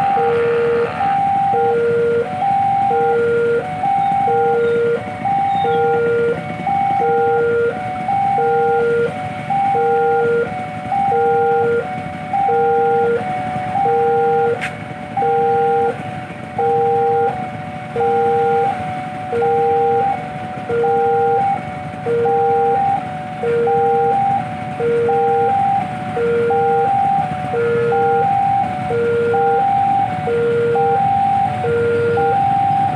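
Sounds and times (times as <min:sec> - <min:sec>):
level crossing alarm chime: 0:00.0 - 0:32.9.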